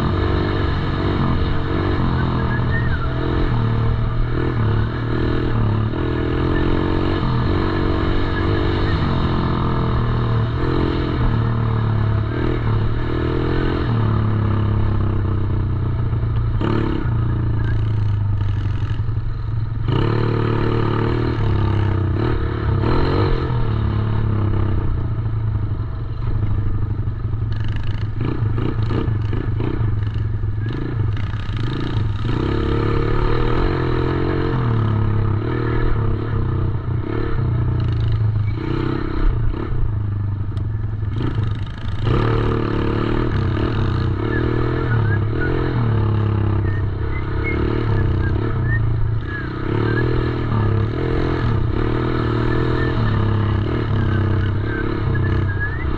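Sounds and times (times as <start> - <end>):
dirt bike engine: 0.0 - 55.9.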